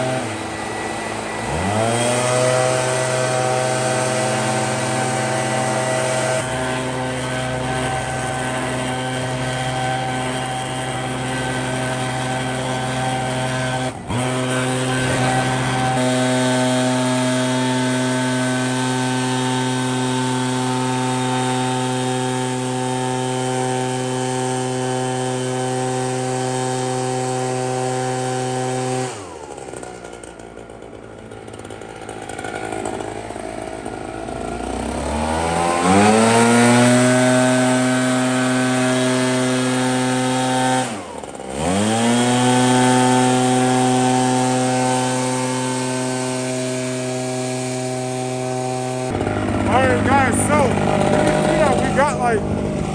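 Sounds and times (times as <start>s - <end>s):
backpack blower engine running: 0.0s - 52.9s.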